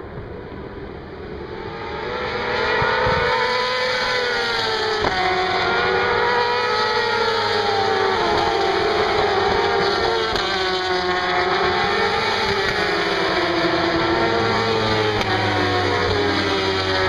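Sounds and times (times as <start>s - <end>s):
racing motorcycles passing: 0.3s - 17.0s.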